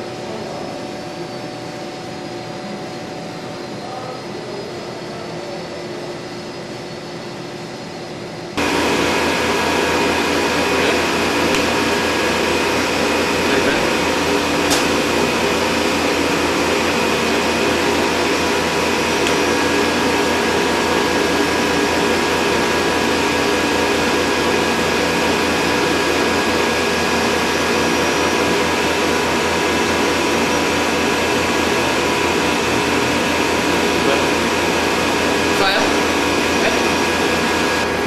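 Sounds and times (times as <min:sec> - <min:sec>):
laser welding machine whirring: 0:00.0 - 0:38.0.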